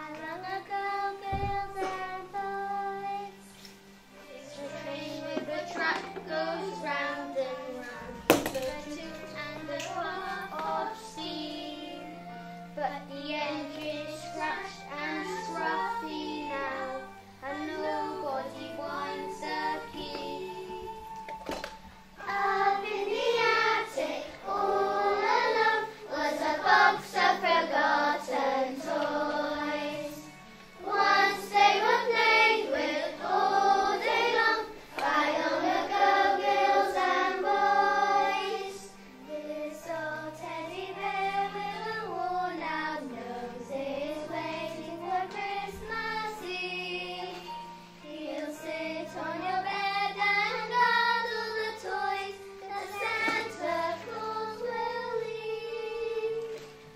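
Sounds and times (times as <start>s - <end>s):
children singing: 0.0s - 56.9s
musical backing track: 0.0s - 56.9s.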